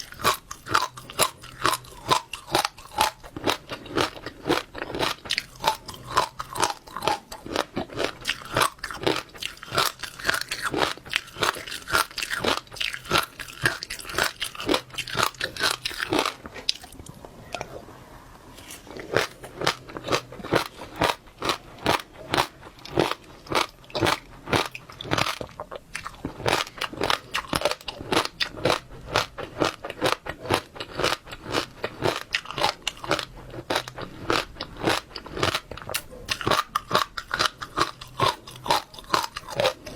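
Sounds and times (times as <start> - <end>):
crunchy chewing of seeds: 0.0 - 17.2, 18.5 - 39.9.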